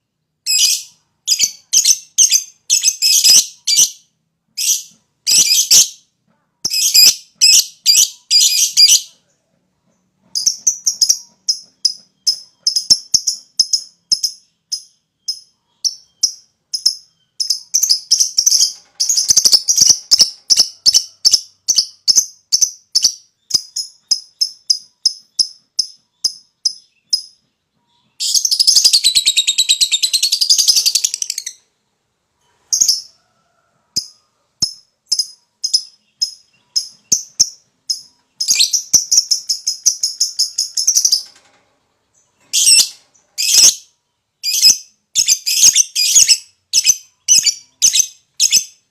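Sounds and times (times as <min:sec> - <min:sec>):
lovebird chirping: 0:00.4 - 0:09.4, 0:10.2 - 0:31.8, 0:32.5 - 0:41.4, 0:42.1 - 0:48.9.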